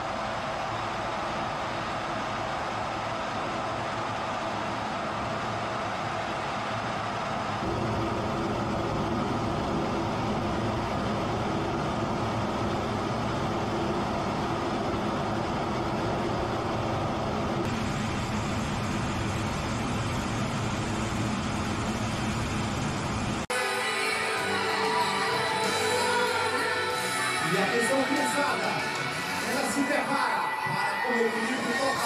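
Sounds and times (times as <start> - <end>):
jet engine and airflow rush: 0.0 - 25.7.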